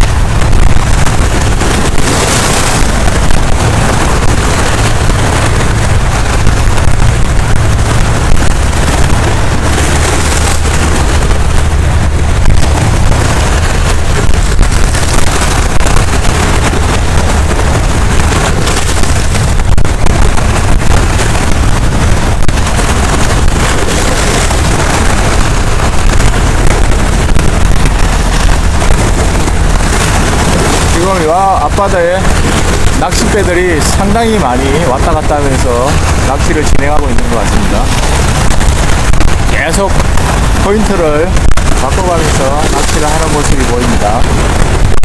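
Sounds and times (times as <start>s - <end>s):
waves breaking on rocks: 0.0s - 45.0s
wind buffeting microphone: 0.0s - 45.0s.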